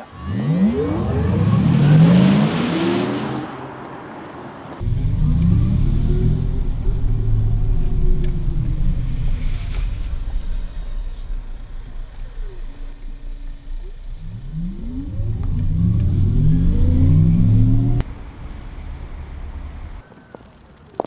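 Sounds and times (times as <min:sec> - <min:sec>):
synthesized electric car sound: 0:00.0 - 0:03.9, 0:04.8 - 0:21.0.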